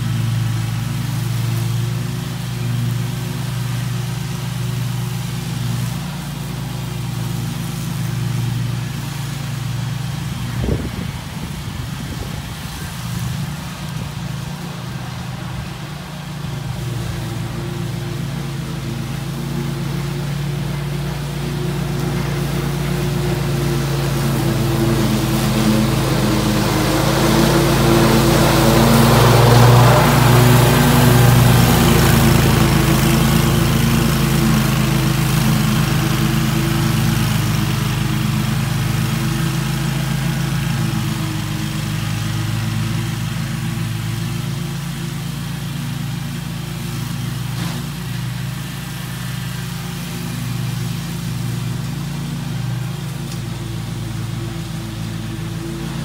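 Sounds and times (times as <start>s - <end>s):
lawn mower engine and cutting deck: 0.0s - 56.0s.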